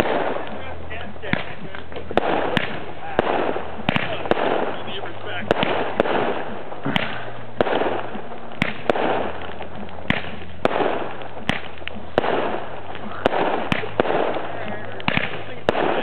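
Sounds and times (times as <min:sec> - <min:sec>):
aerial firework bangs: 0:00.0 - 0:16.0
fireworks hissing and crackling: 0:00.0 - 0:16.0.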